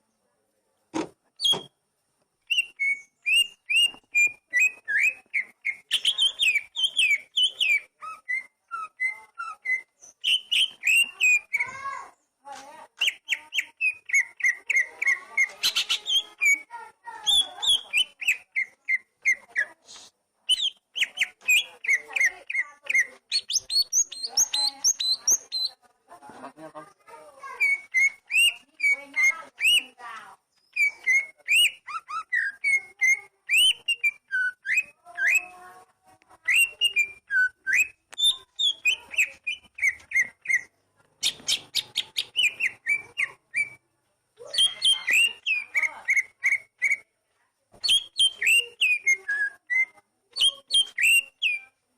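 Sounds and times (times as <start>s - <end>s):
bird singing: 2.4s - 12.4s, 13.0s - 19.7s, 20.5s - 25.8s, 27.4s - 35.6s, 36.4s - 43.8s, 44.4s - 47.0s, 47.8s - 51.8s.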